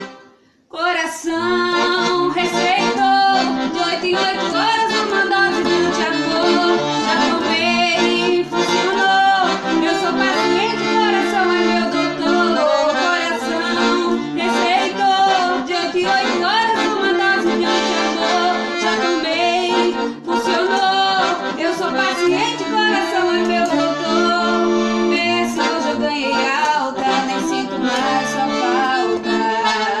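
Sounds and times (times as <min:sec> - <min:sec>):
accordion playing lively tune: 0:00.0 - 0:00.4, 0:01.3 - 0:30.0
person singing: 0:00.8 - 0:30.0.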